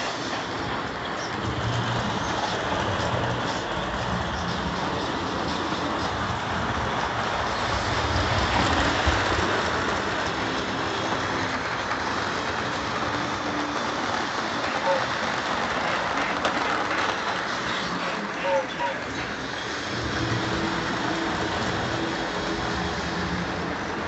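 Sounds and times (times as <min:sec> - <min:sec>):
model train wheels rumbling on track: 0:00.0 - 0:24.0.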